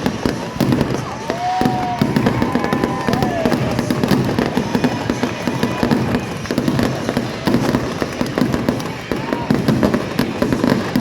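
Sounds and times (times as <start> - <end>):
fireworks crackling: 0.0 - 11.0
fireworks whistling: 0.0 - 11.0.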